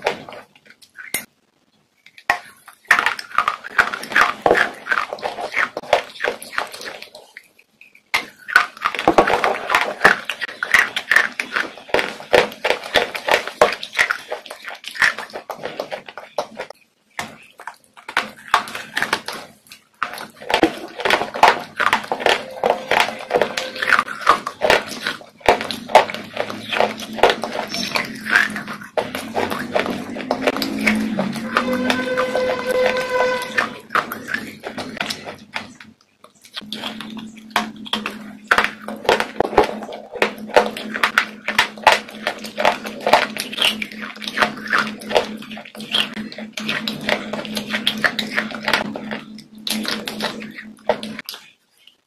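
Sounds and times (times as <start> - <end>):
chewing ice crunching: 2.0 - 52.0.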